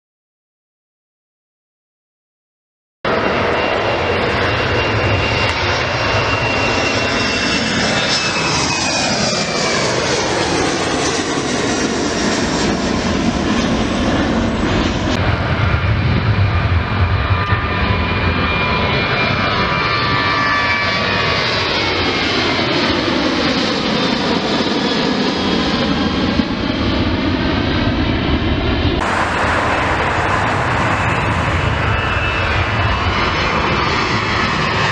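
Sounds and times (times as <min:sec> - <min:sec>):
jet airliner roar and whine: 0:03.1 - 0:34.9.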